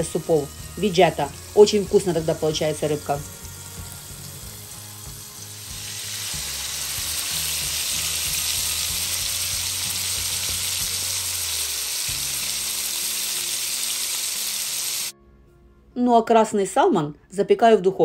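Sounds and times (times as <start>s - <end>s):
fish sizzling in oil: 0.0s - 15.1s.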